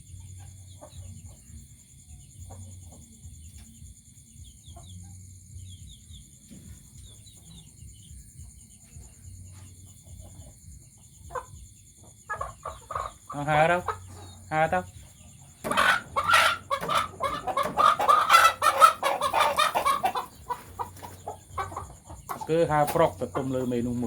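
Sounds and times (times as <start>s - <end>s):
chickens clucking: 0.0s - 24.0s
insects droning: 0.0s - 24.0s
high chirping calls: 4.4s - 24.0s.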